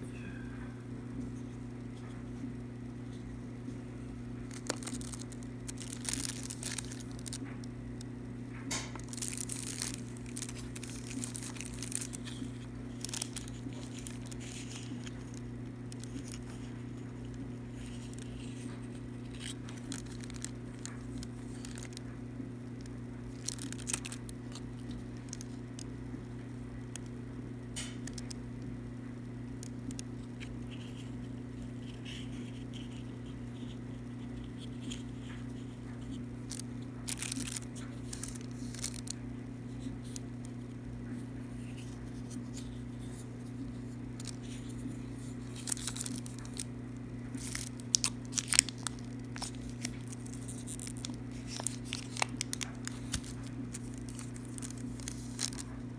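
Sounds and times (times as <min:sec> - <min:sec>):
crinkling crackling noises: 0:00.0 - 0:55.9
steady low hum: 0:00.0 - 0:55.9.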